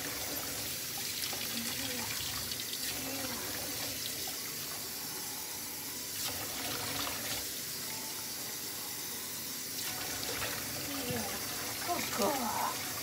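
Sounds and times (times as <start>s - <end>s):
faucet running into metal sink: 0.0s - 5.1s, 5.9s - 13.0s.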